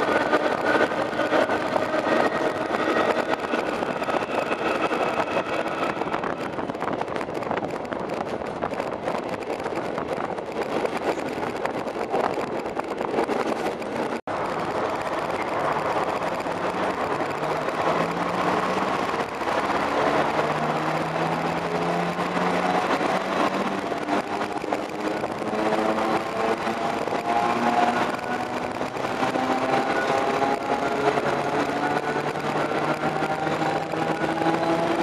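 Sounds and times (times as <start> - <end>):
train running on track: 0.0 - 35.0
wind rush: 0.0 - 35.0.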